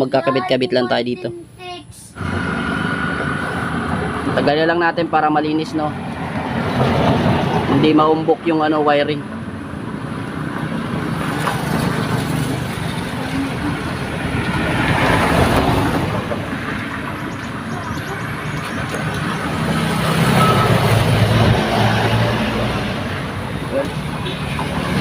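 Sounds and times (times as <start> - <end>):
vehicle engines and road noise: 0.0 - 25.0.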